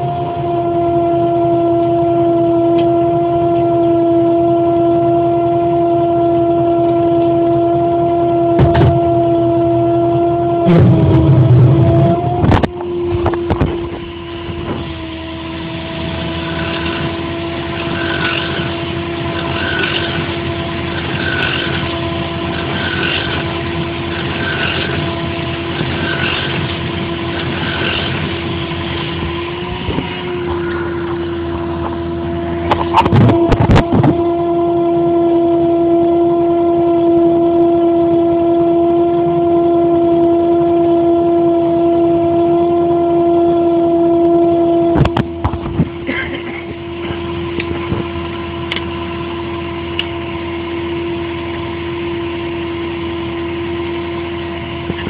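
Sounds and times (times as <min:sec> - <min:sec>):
crane truck whine: 0:00.0 - 0:55.0.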